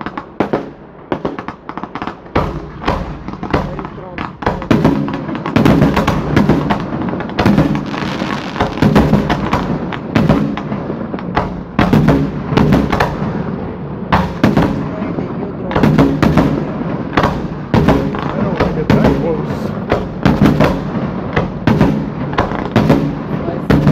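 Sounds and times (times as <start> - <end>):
fireworks bangs: 0.0 - 23.9
fireworks crackle: 0.0 - 23.9.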